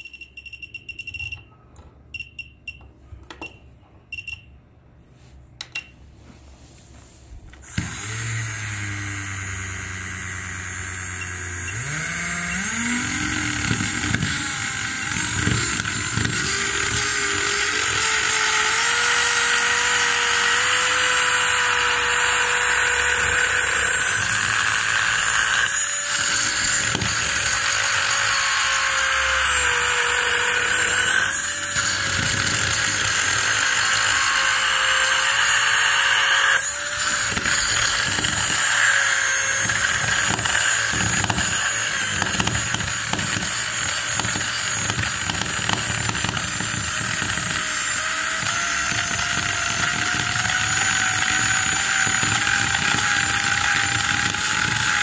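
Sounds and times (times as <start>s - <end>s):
small electric motor whining: 7.6s - 55.0s.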